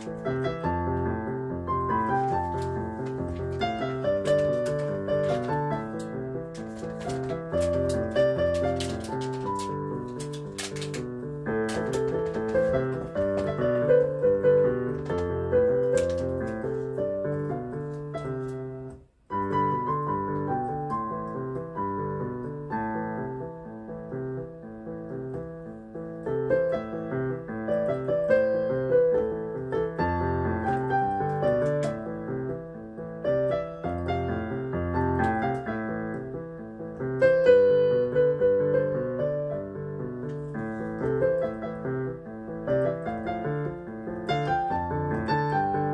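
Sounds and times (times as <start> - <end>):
keyboard melody over chords: 0.0 - 45.9.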